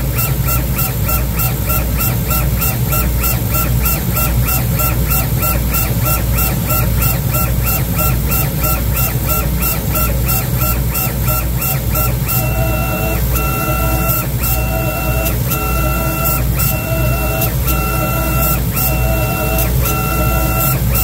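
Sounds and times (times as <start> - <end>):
laser engraver motors whining: 0.0 - 21.0
steady low hum: 0.0 - 21.0.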